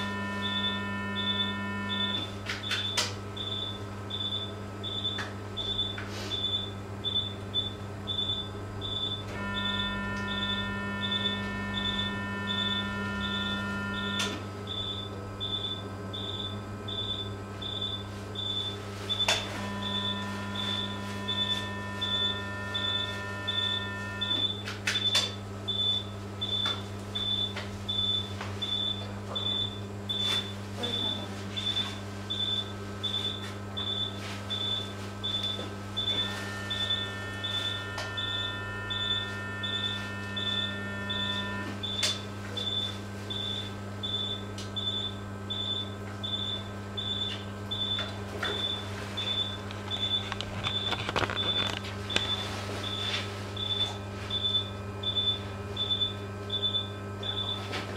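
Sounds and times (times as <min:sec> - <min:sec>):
patient monitor beeps: 0:00.0 - 0:57.8
electrical hum: 0:00.0 - 0:57.9.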